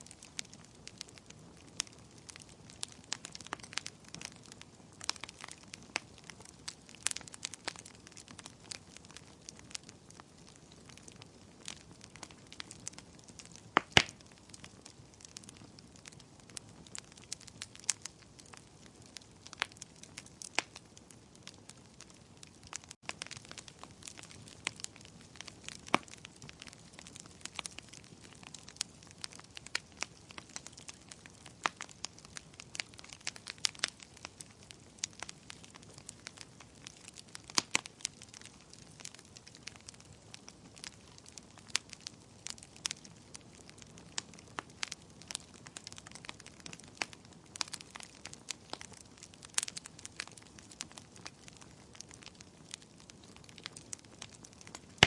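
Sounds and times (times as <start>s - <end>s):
bonfire crackling and popping: 0.0s - 55.0s
soft steady hiss: 0.0s - 55.0s.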